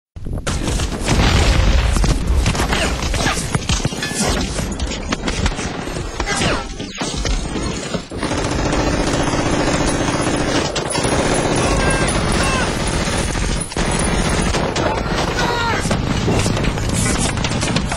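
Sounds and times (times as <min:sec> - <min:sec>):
rapid gunshots: 0:00.5 - 0:17.9.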